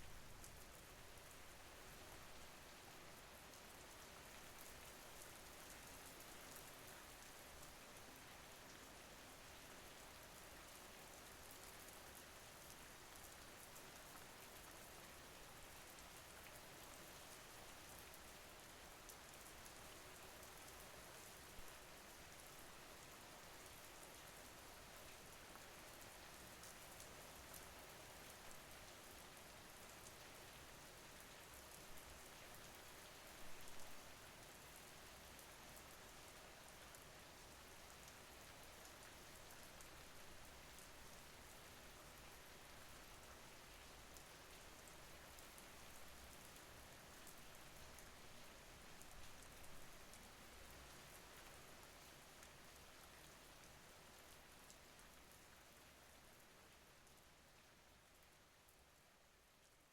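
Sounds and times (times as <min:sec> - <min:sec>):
soft steady rain: 0:00.0 - 0:59.9.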